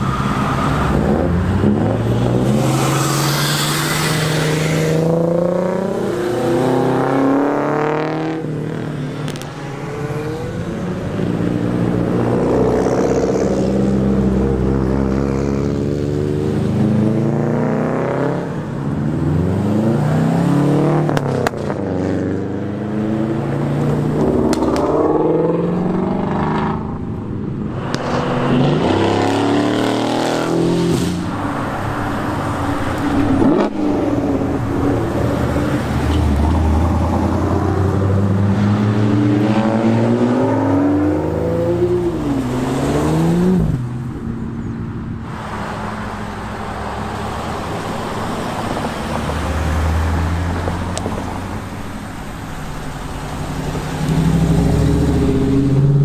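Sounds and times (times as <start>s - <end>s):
car engines revving past: 0.0s - 56.0s.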